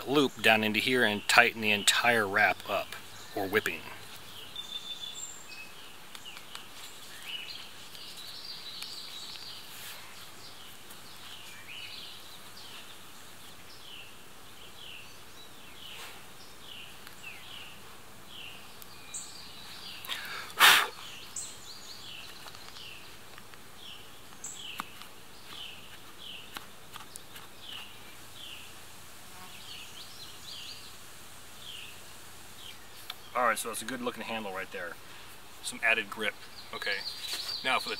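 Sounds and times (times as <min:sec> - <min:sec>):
faint steady hiss: 0:00.0 - 0:37.9.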